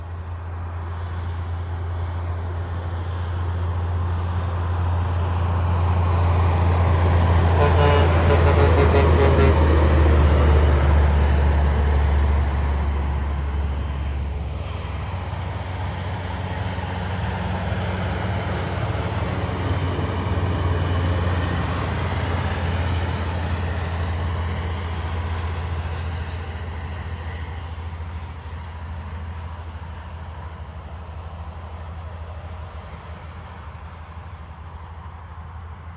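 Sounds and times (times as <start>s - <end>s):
truck diesel engine rumbling past: 0.0s - 35.9s.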